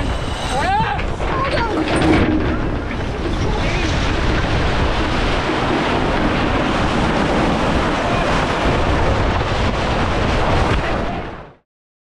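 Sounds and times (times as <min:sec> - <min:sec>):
water rushing along a hull: 0:00.0 - 0:11.6
wind buffeting the microphone: 0:00.0 - 0:11.6.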